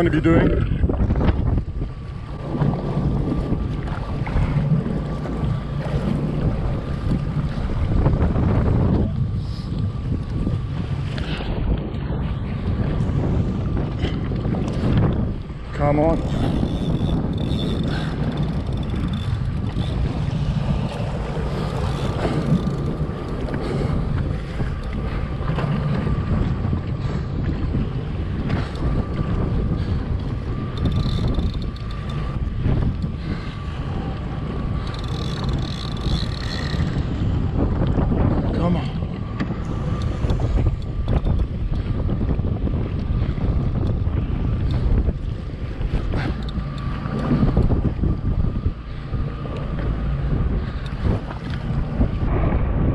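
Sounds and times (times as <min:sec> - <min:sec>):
water sloshing around jet ski: 0:00.0 - 0:52.9
wind buffeting microphone: 0:00.0 - 0:52.9.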